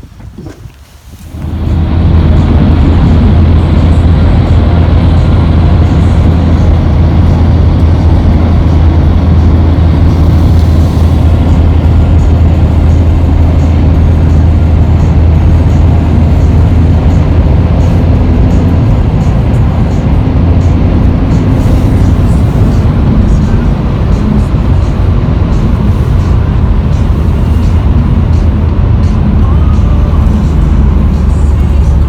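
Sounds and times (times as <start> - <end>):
steady rumble and hiss: 0.0 - 32.0.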